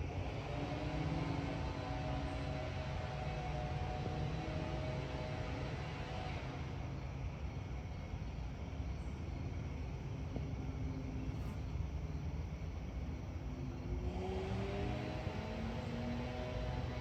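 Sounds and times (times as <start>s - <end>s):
aircraft engine rumble: 0.0s - 14.1s
faint whine: 0.0s - 17.0s.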